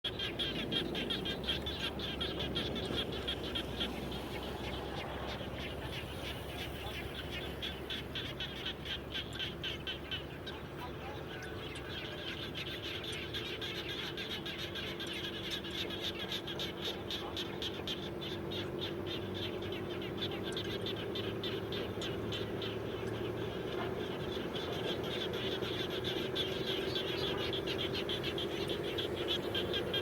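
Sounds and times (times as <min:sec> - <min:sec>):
low steady frog chorus: 0:00.0 - 0:30.0
frogs pulsing calls: 0:00.1 - 0:30.0.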